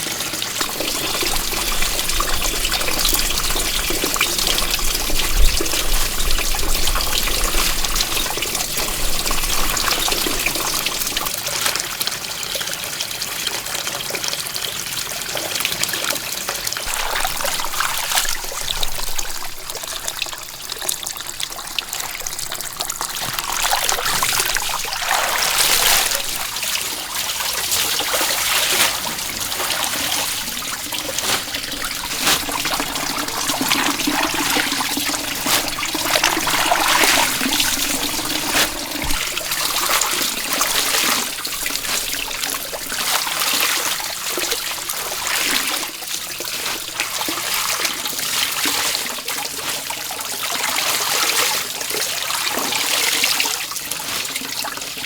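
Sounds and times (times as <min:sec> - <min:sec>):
water splashing and trickling: 0:00.0 - 0:14.7, 0:16.7 - 0:55.0.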